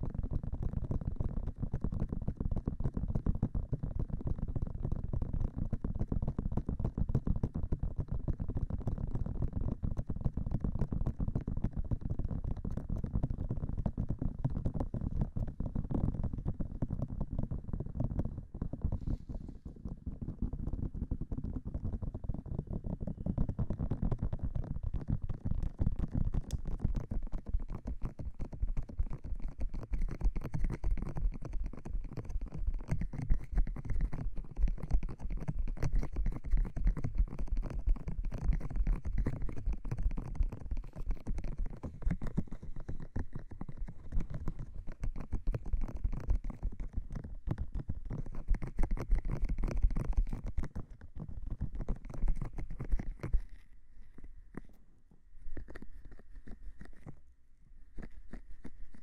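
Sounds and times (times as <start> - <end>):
fingertips tapping on microphone: 5.3 - 54.8, 55.4 - 57.2, 57.9 - 59.0.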